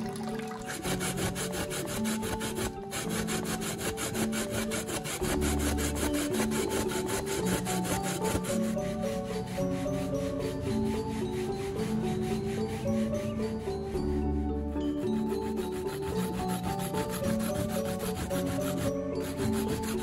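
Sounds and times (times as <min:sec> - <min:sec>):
background music: 0:00.0 - 0:20.0
coconut grated on metal grater: 0:00.5 - 0:13.9, 0:14.8 - 0:20.0.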